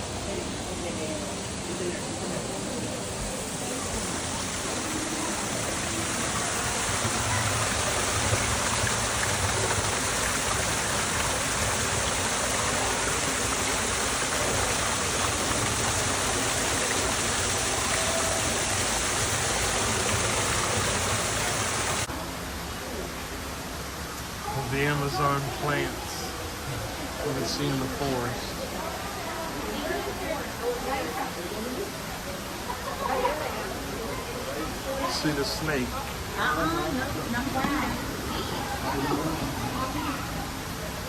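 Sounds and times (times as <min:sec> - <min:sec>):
rushing water: 0:00.0 - 0:41.0.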